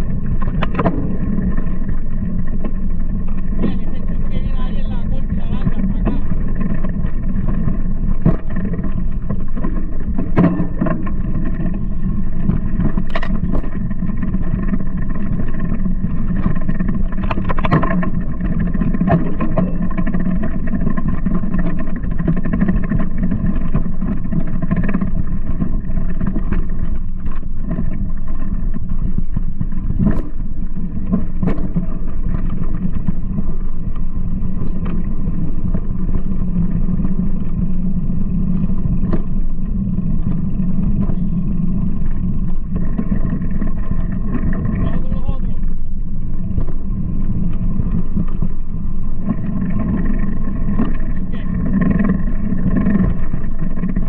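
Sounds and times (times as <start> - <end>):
mountain bike rumbling on dirt: 0.0 - 54.0.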